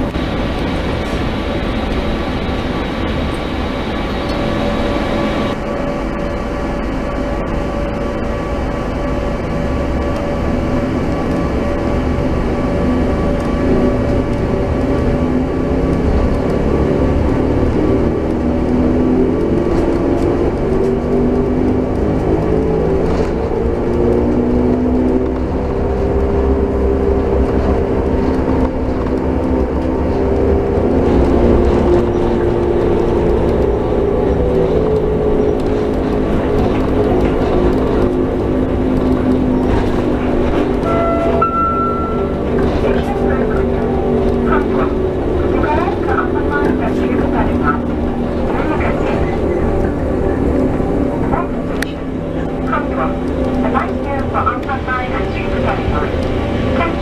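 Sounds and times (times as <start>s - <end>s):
monorail train running whine: 0.0s - 57.0s.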